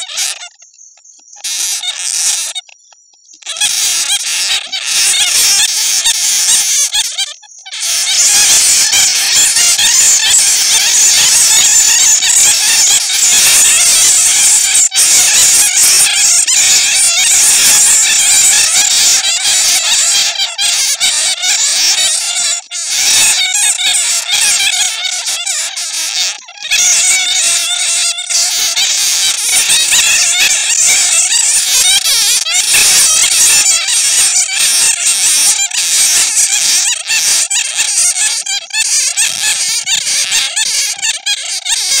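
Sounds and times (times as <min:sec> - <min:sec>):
bats squealing and chattering: 0:00.0 - 0:42.0.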